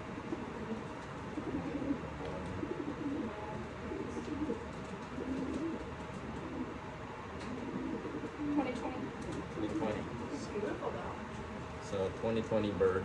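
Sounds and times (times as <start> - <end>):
pigeons cooing: 0.0 - 11.8.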